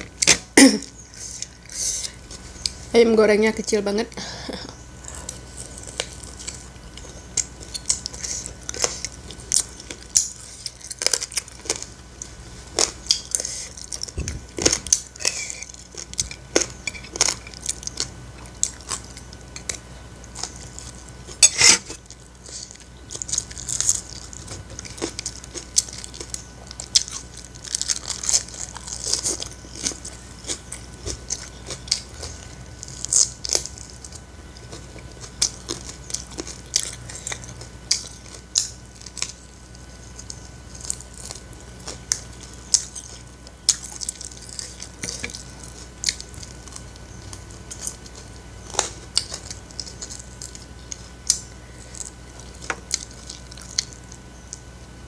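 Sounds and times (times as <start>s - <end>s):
chewing and crunching: 0.0s - 2.9s, 4.1s - 55.0s.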